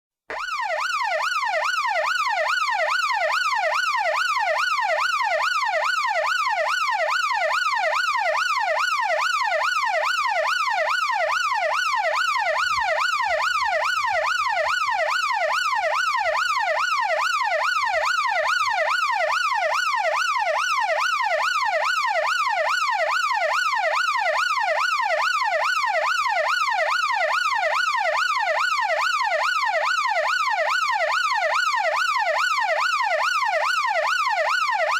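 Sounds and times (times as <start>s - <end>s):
emergency siren yelping: 0.3s - 34.9s.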